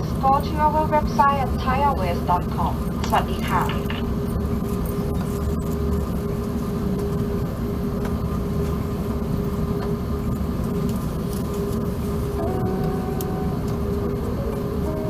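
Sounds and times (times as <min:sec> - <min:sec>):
aircraft cabin rumble while taxiing: 0:00.0 - 0:15.0.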